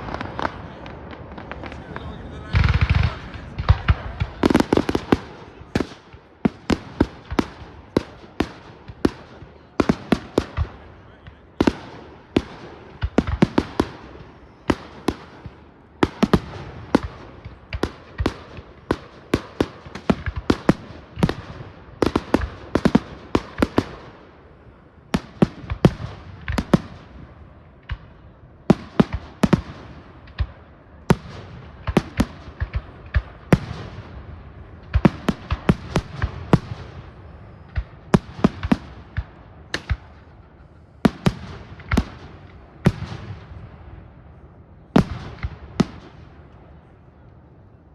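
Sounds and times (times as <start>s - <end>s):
firework rumbling and crackle: 0.0s - 47.9s.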